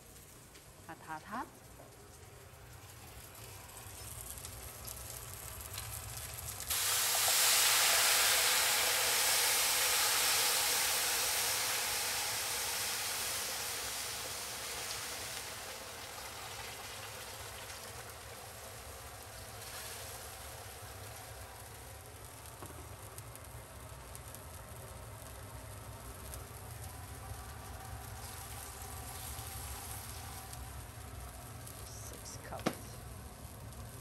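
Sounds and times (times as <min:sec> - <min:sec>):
water hitting hot oil sizzling: 0:00.0 - 0:34.0.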